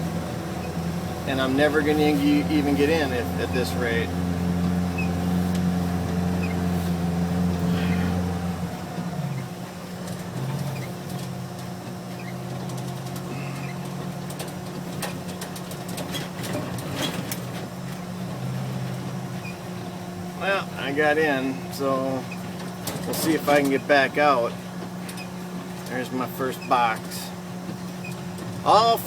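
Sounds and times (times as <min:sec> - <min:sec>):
truck engine working hard: 0:00.0 - 0:29.0.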